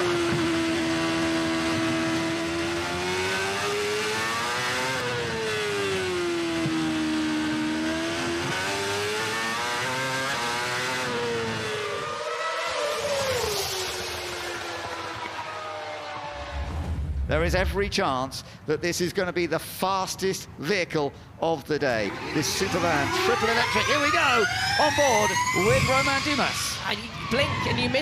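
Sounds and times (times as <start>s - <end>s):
racing car engine: 0.0s - 17.0s, 21.8s - 28.0s.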